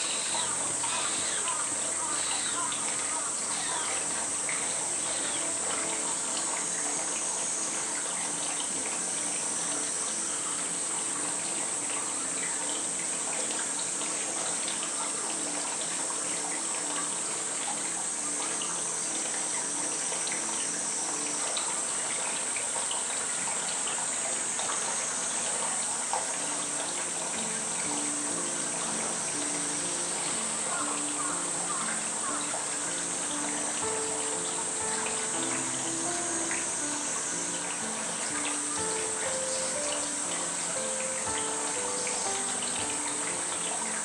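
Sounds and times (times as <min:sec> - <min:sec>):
high-pitched insect drone: 0:00.0 - 0:44.0
running water: 0:00.0 - 0:44.0.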